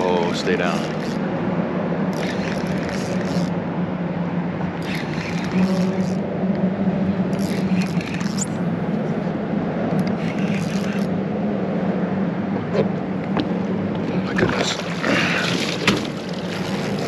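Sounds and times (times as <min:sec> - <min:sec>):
electric trolling motor humming: 0:00.0 - 0:17.0.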